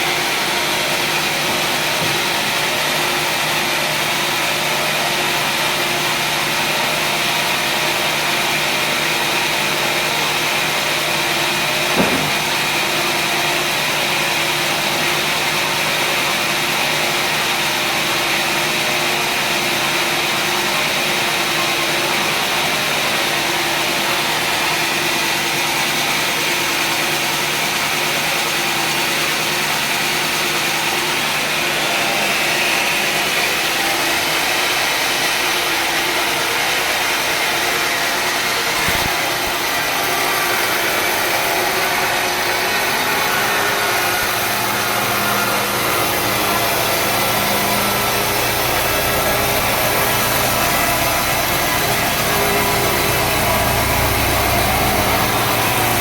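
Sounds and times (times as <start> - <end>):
sawmill hum and whine: 0.0 - 56.0.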